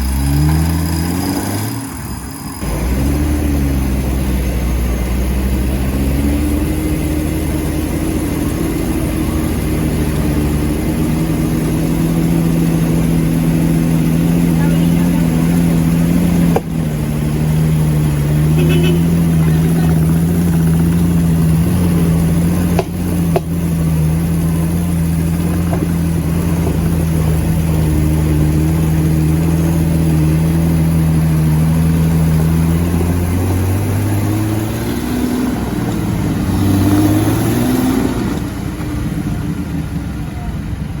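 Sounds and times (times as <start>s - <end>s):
car engine running hard: 0.0s - 41.0s.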